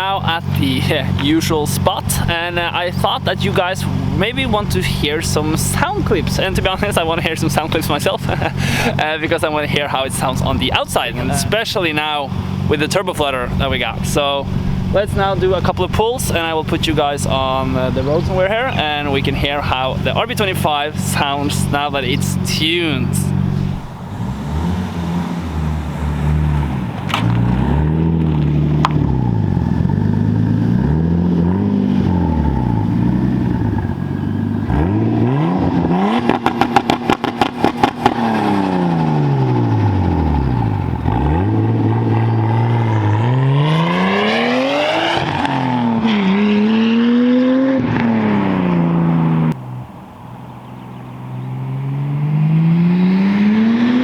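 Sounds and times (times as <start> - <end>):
car engine revving hard: 1.4 - 12.8, 16.4 - 49.6, 51.3 - 54.0.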